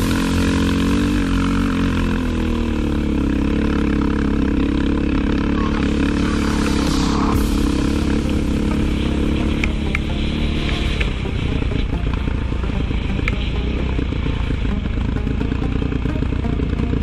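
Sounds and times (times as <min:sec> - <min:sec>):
atv engine hum: 0:00.0 - 0:17.0.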